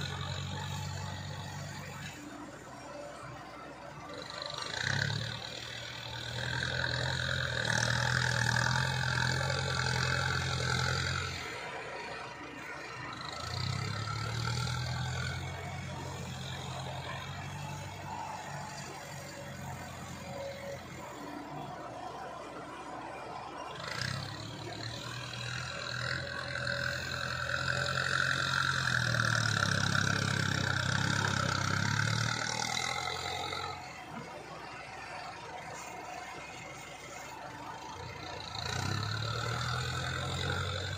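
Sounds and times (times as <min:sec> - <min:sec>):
excavator diesel engine under load: 0:00.0 - 0:40.9.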